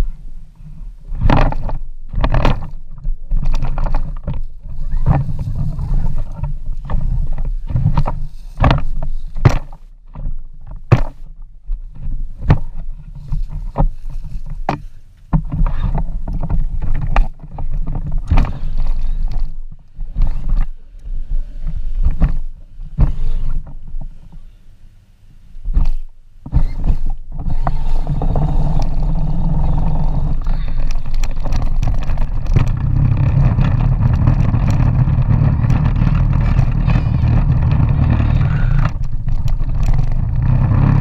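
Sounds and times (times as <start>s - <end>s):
ride-on toy rumbling and rattling: 0.0s - 24.7s, 25.7s - 41.0s.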